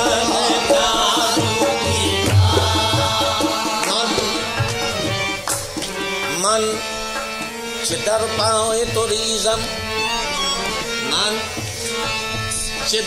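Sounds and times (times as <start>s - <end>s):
ornamented vocal melody: 0.0s - 13.0s
tabla rhythm: 0.0s - 13.0s.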